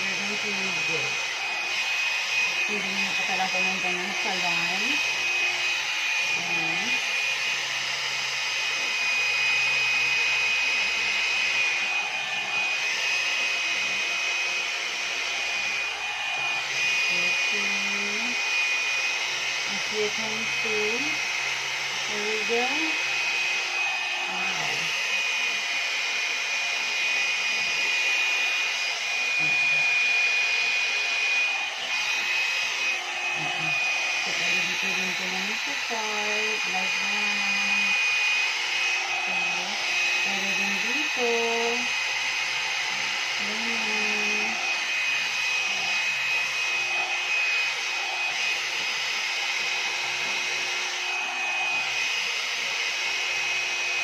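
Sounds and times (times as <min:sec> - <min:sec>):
hair dryer blowing air: 0:00.0 - 0:54.0
high motor whine: 0:00.0 - 0:54.0.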